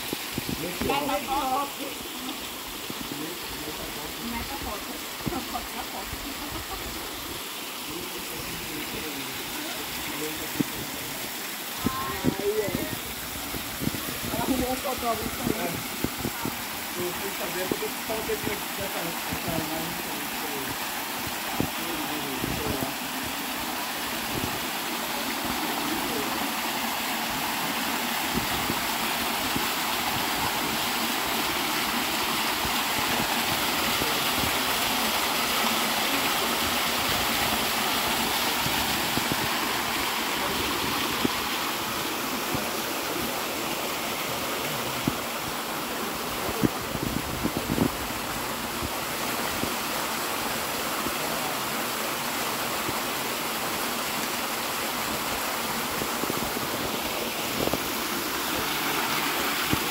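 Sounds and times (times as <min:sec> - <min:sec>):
waterfall rushing and splashing: 0:00.0 - 0:59.9.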